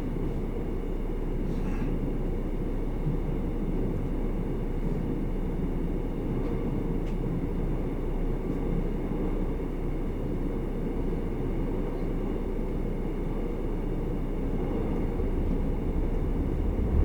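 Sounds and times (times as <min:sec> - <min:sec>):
subway train low rumble: 0:00.0 - 0:17.0.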